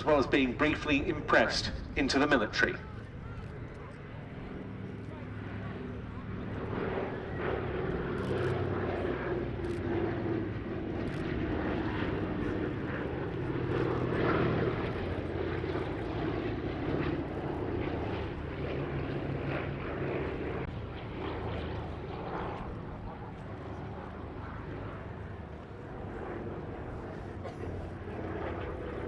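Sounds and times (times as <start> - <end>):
propeller plane engines droning: 0.0 - 29.0.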